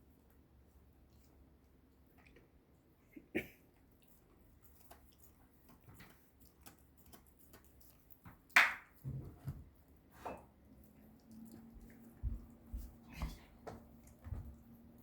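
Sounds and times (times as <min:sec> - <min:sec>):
puppy gnawing on a chew: 0:00.0 - 0:15.0.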